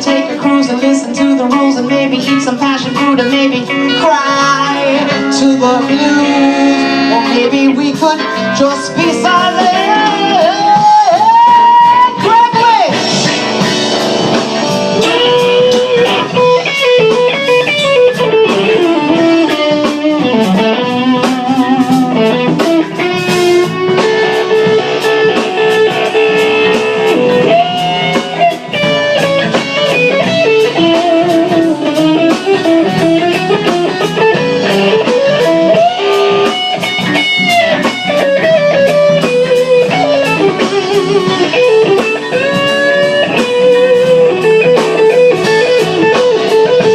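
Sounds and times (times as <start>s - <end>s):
backing instruments: 0.0s - 46.9s
drums: 0.0s - 46.9s
electric guitar lead: 0.0s - 46.9s.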